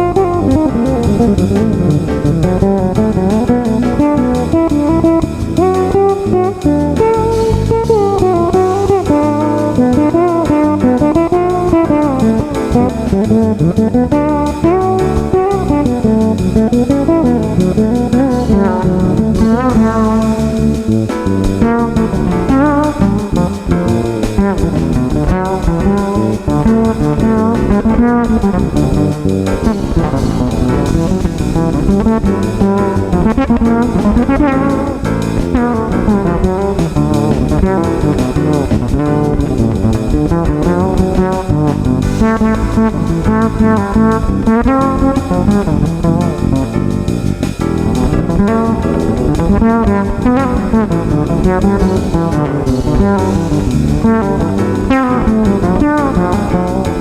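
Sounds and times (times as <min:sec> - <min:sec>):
backing track with drums: 0:00.0 - 0:57.0
fretless bass jazz line: 0:00.0 - 0:57.0.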